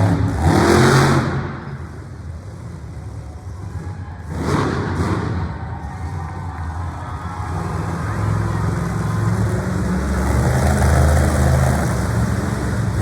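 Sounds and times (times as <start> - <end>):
arena crowd noise: 0.0 - 13.0
monster truck engine revving: 0.0 - 13.0.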